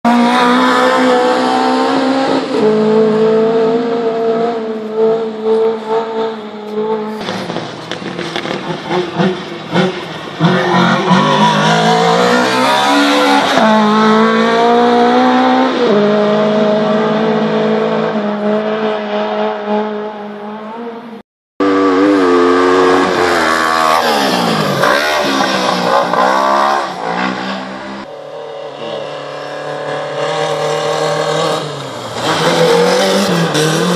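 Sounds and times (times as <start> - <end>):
car engines revving: 0.1 - 33.9.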